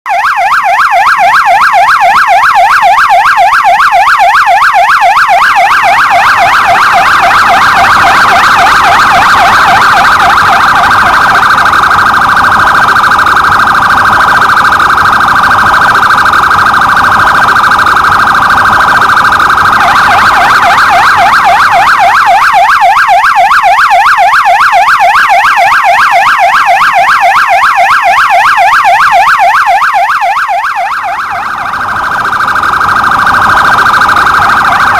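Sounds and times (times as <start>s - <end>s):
police siren yelping: 0.1s - 34.9s.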